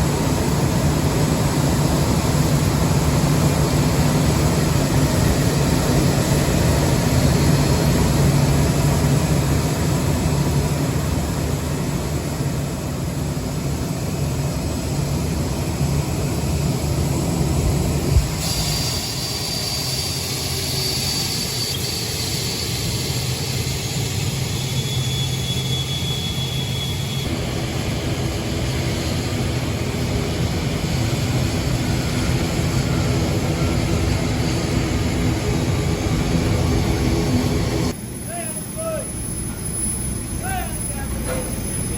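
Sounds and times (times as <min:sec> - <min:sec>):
jet engines rumbling with whine: 0:00.0 - 0:41.9.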